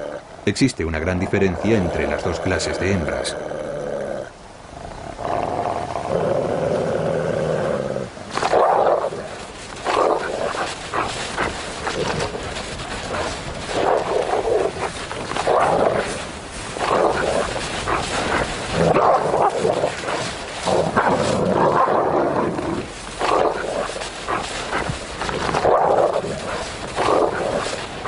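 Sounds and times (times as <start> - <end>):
wolves snarling and growling: 0.0 - 0.3, 1.5 - 28.0.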